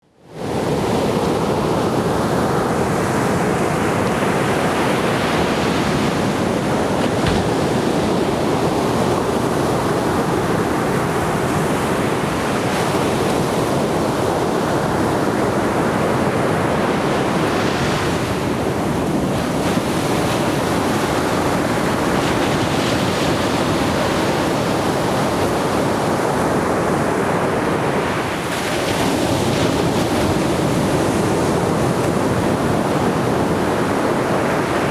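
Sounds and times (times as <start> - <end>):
surf breaking on a beach: 1.3 - 34.9.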